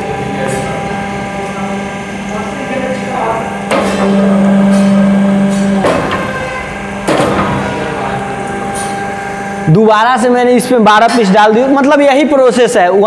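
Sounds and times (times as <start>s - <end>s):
hydraulic pump hum: 0.0s - 13.0s.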